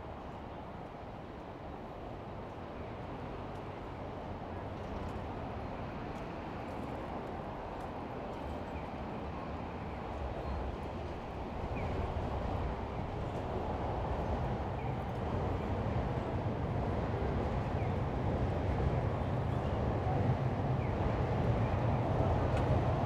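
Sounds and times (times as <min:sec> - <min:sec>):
traffic and road noise: 0:00.0 - 0:23.0.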